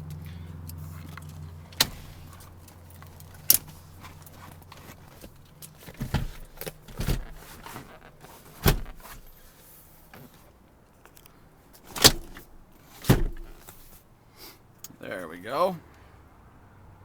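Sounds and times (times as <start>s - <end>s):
car interior parts clunking: 0.0s - 14.0s.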